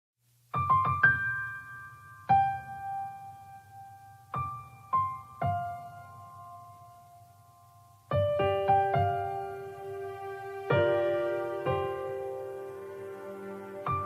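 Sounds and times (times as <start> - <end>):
slow sparse piano notes: 0.6 - 14.0.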